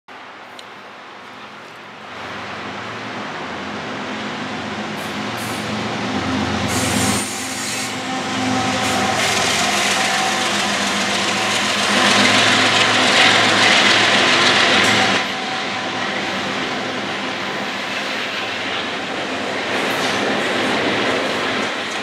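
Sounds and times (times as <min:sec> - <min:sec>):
diesel locomotive engine drone: 0:00.1 - 0:22.0
train cars rolling on rails: 0:00.1 - 0:22.0.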